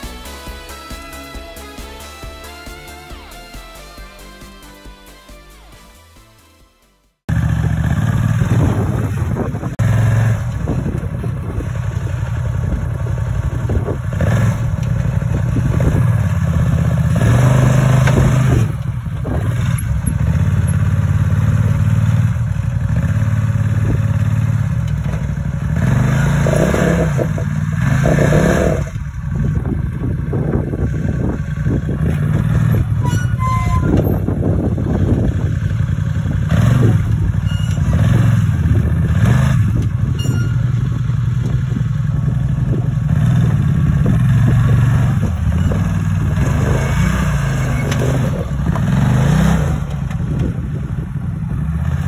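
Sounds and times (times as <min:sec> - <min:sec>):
utility vehicle engine revving: 0:07.3 - 0:52.0.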